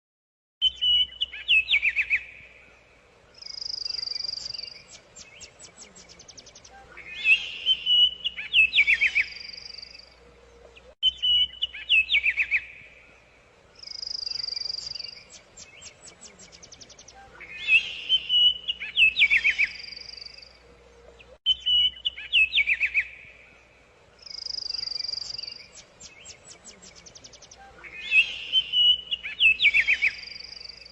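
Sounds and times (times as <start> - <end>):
songbird chirping and whistling: 0.6 - 30.9.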